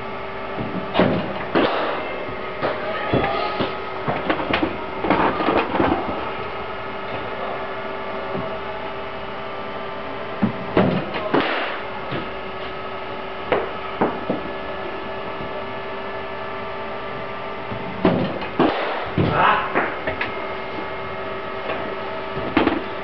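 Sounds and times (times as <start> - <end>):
steady hum with held tones: 0.0 - 23.0.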